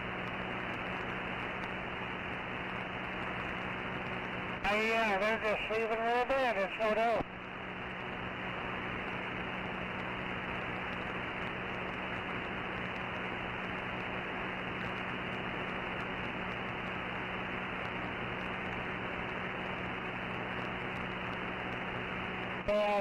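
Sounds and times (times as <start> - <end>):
low steady hum: 0.0 - 23.0
radio static hiss: 0.0 - 23.0.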